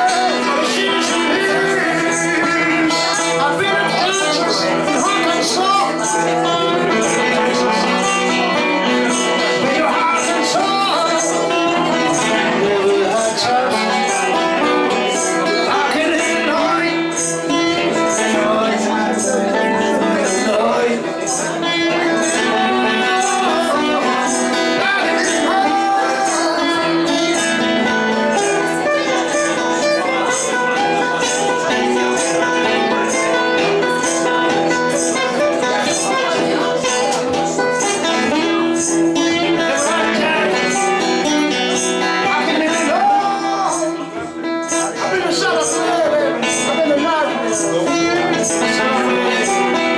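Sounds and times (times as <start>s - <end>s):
guitar: 0.0s - 49.9s
jingling tambourine beat: 0.0s - 49.9s
person singing: 0.0s - 49.9s.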